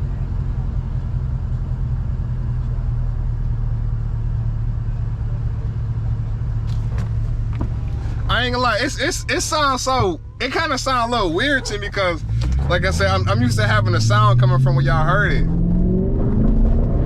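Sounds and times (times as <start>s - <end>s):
engine low drone: 0.0s - 17.0s.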